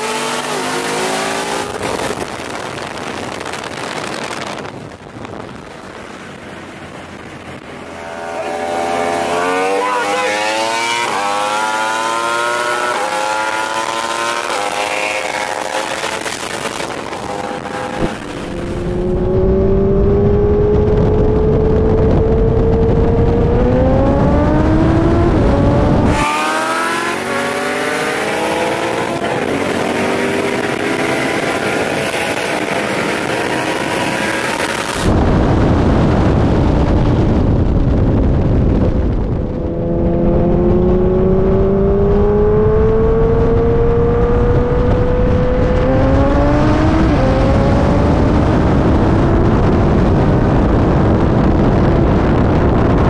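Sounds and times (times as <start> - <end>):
motorcycle accelerating: 0.0 - 53.0
wind rush on camera: 0.0 - 53.0
car engine accelerating: 7.4 - 53.0.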